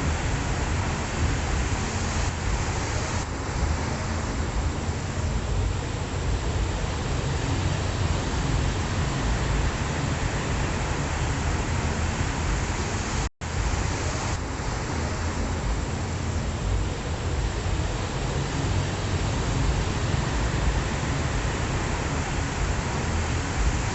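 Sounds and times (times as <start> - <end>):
ocean waves washing onto shore: 0.0 - 23.9.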